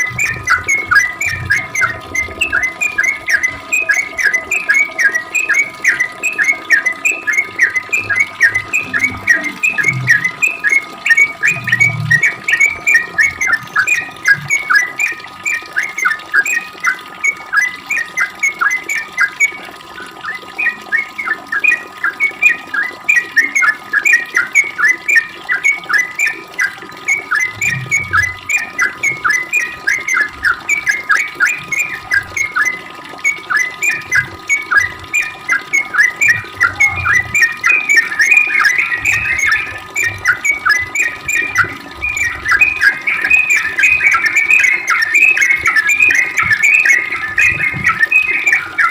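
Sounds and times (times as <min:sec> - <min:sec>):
bird singing rapid chirps: 0:00.0 - 0:19.6, 0:20.2 - 0:48.9.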